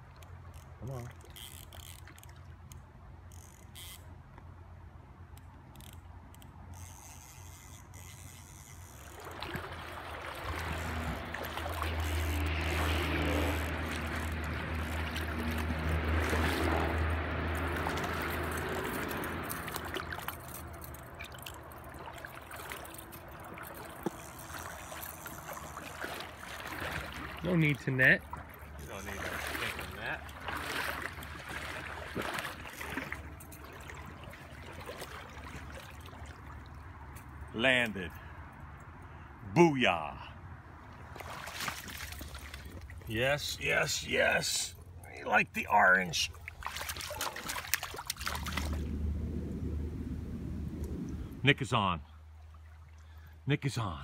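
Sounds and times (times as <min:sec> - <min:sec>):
river water rushing and sloshing: 0:06.8 - 0:54.0.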